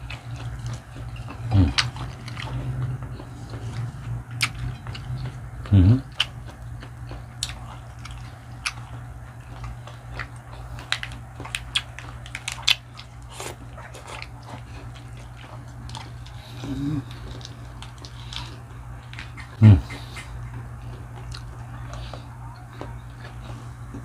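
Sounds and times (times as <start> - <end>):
crunchy bites and chewing: 0.0 - 24.0
steady low hum: 0.0 - 24.0.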